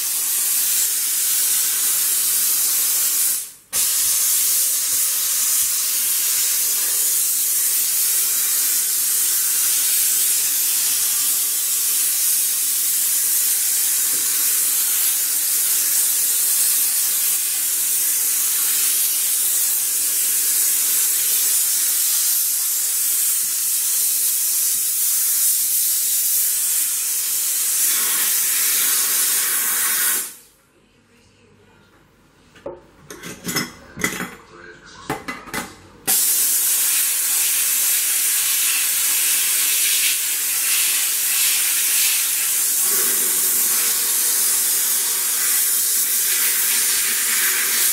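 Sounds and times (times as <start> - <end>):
steam cleaner hissing: 0.0 - 30.5, 36.1 - 47.9.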